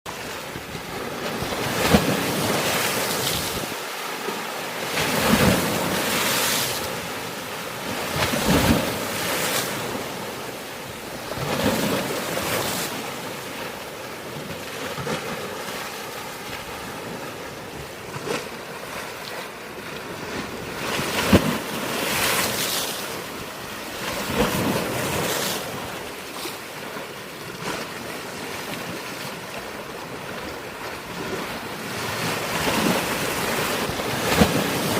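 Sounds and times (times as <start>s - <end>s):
waves crashing on rocky shore: 0.1s - 34.9s.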